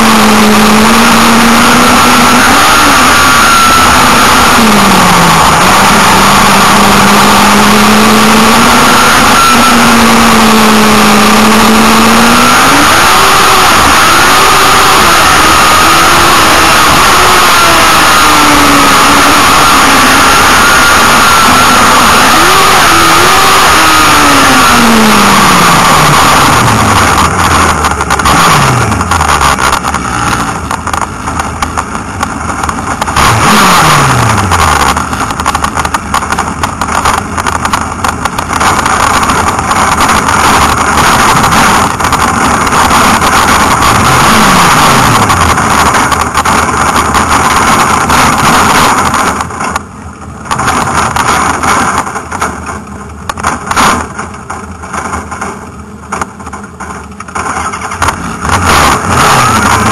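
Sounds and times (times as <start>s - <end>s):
race car engine roaring: 0.0s - 59.9s.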